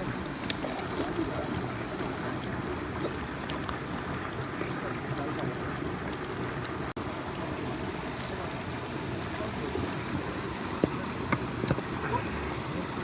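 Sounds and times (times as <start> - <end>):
stream running water: 0.0 - 13.0.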